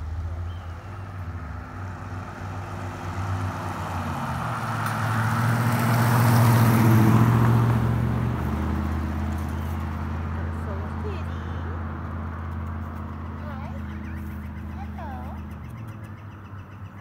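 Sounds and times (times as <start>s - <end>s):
tyre noise on road: 0.0s - 17.0s
vehicle engine hum: 0.0s - 17.0s.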